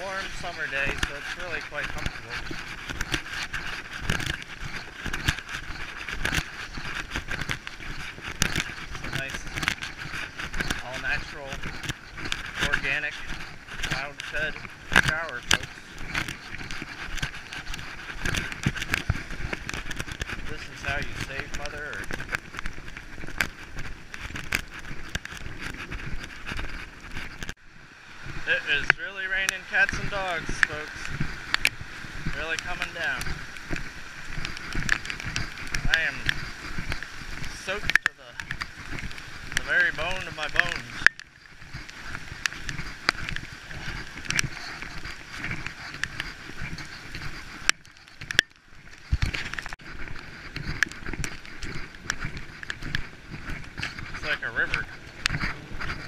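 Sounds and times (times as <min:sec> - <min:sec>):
heavy rain pouring: 0:00.0 - 0:23.1, 0:26.5 - 0:56.0
footsteps on wet pavement: 0:00.0 - 0:56.0
raindrops tapping on camera: 0:00.0 - 0:56.0.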